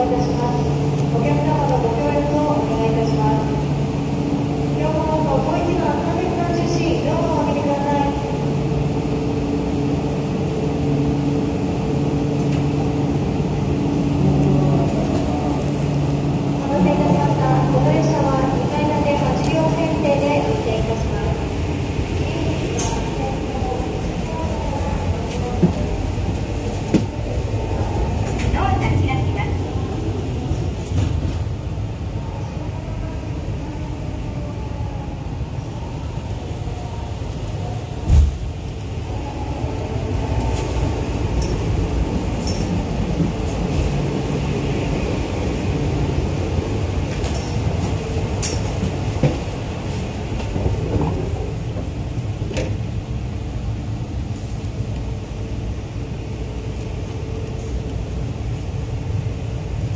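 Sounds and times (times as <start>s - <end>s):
train interior rumble and hum: 0.0s - 59.9s.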